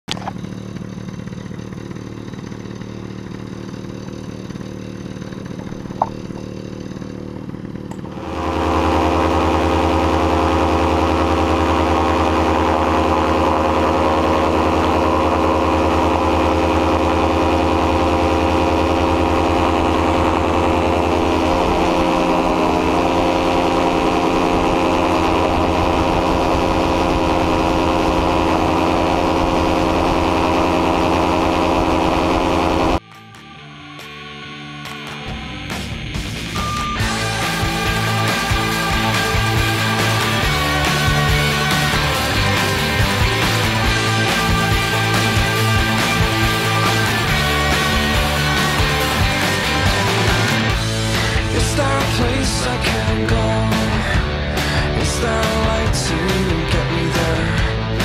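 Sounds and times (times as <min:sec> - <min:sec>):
ultralight engine and propeller: 0:00.0 - 0:58.0.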